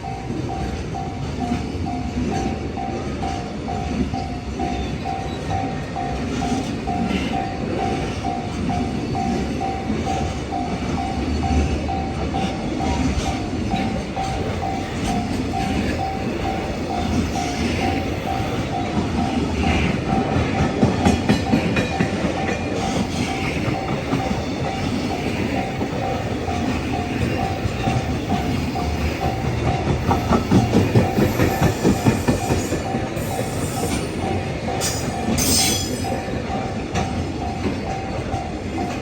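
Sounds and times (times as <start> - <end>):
railway crossing bell dinging: 0.0 - 39.0
train wheels clacking: 0.0 - 39.0.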